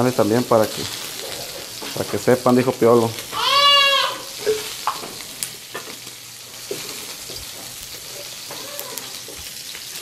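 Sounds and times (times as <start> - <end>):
meat frying with sizzle and pops: 0.0 - 10.0.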